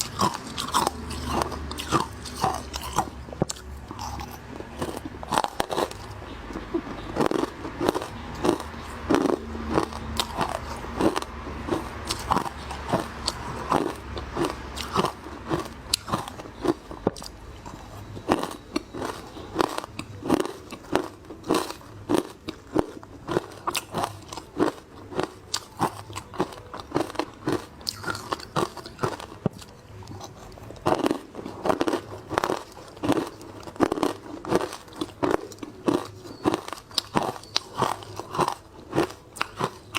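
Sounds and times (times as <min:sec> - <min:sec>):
crunchy ice chewing: 0:00.0 - 0:39.9.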